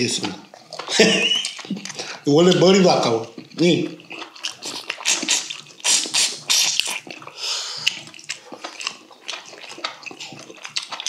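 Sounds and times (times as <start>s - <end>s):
wet chewing and smacking: 0.0s - 11.0s.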